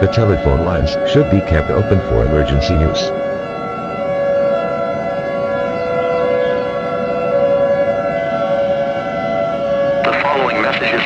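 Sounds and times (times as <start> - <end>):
warning siren steady tone: 0.0 - 11.0.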